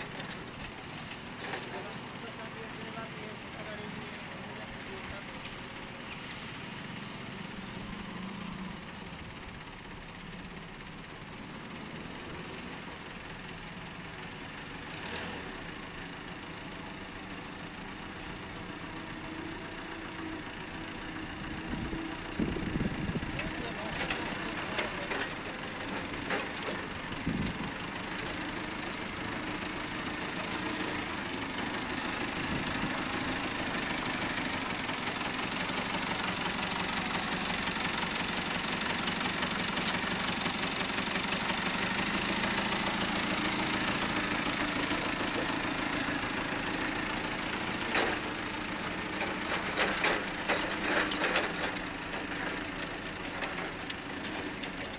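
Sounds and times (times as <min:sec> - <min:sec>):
forklift engine clattering: 0:00.0 - 0:54.9.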